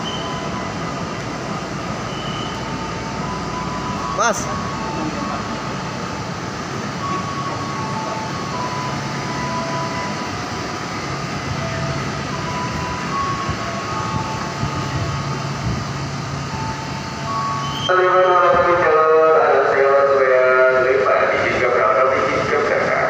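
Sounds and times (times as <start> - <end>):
train running: 0.0 - 23.0.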